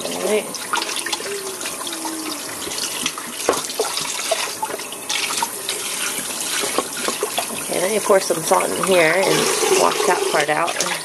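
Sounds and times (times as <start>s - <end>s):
water running into a sink: 0.0s - 11.0s.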